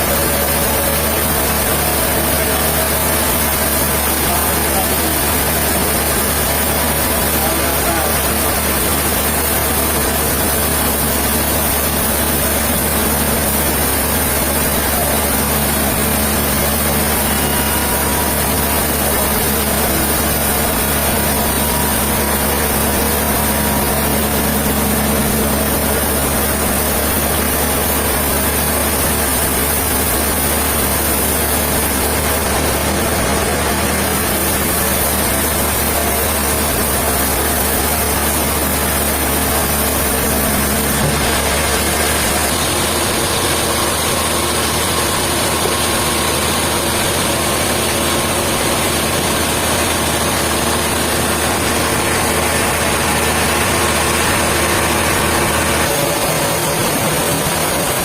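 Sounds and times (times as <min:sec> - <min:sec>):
heavy machinery running: 0:00.0 - 0:58.0.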